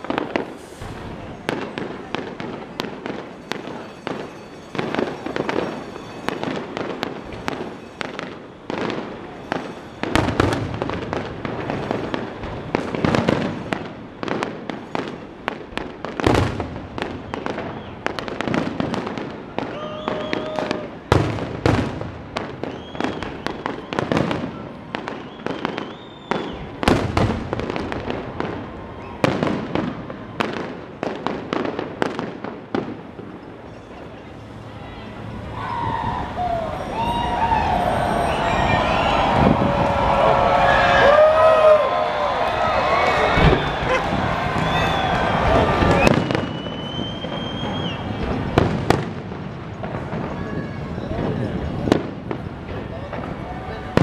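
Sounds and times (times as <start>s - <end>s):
heavy fireworks booms: 0.0s - 34.1s, 35.2s - 54.0s
fireworks bursting: 0.0s - 54.0s.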